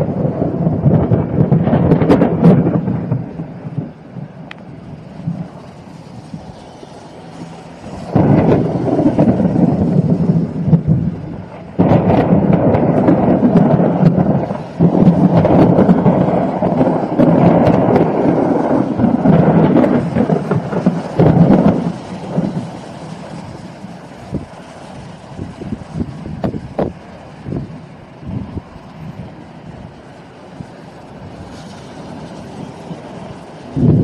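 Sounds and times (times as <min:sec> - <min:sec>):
thunder clap and rumble: 0:00.0 - 0:34.0.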